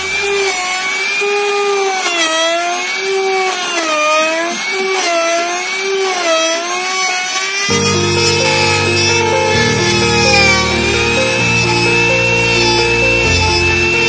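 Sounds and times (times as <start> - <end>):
router motor whine: 0.0 - 14.0.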